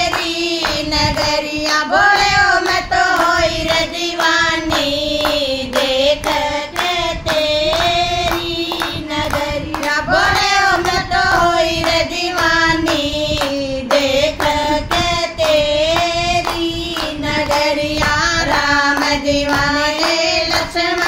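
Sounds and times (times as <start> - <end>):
hand-clapping on the beat: 0.0 - 21.0
women singing together: 0.0 - 21.0.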